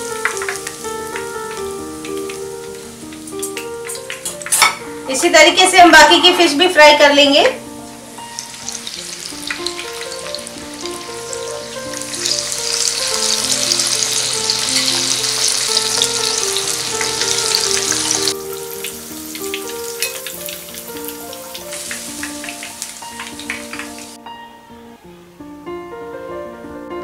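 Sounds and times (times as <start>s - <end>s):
fish deep-frying in oil: 0.0s - 6.2s, 7.1s - 24.2s.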